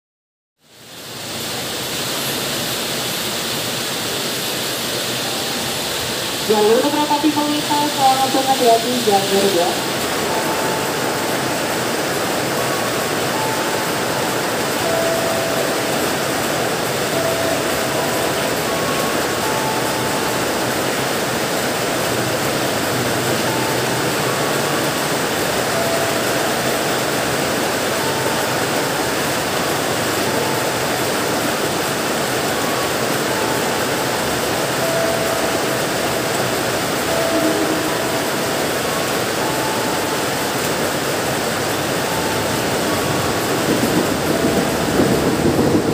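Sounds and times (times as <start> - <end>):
heavy rain pouring: 0.6 - 45.9
train rumbling on wet track: 0.6 - 45.9.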